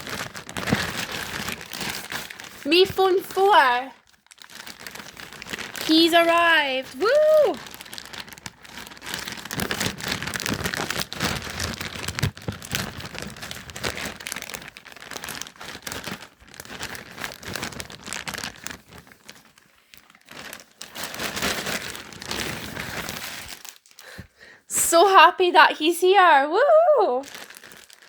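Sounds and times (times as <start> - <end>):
packaging crinkling: 0.0 - 24.2, 27.2 - 28.0.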